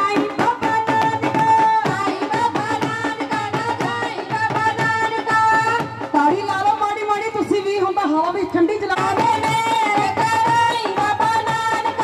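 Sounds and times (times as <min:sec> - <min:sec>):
drums beating: 0:00.0 - 0:12.0
woman singing through loudspeakers: 0:00.0 - 0:12.0.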